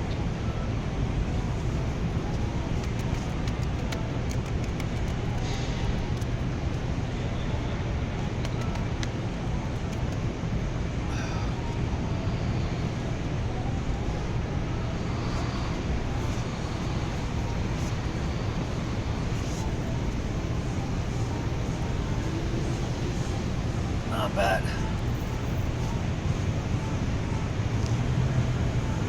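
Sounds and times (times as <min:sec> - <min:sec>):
constant hum: 0:00.0 - 0:29.0
low rumbling background noise: 0:00.0 - 0:29.0.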